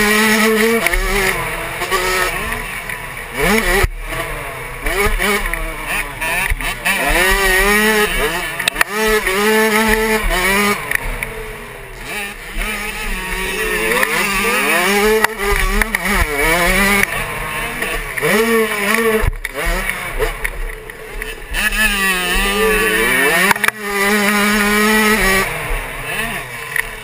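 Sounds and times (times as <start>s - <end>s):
motocross engine revving: 0.0s - 27.0s.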